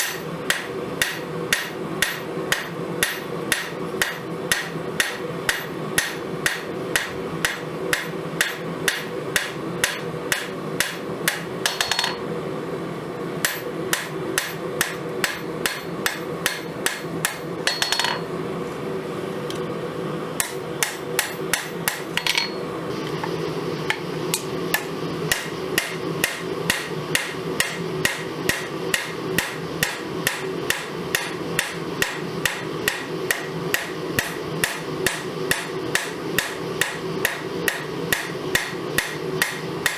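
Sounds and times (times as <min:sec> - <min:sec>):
hammer striking steel on anvil: 0:00.0 - 0:12.2, 0:13.4 - 0:18.3, 0:20.4 - 0:22.6, 0:23.9 - 0:39.9.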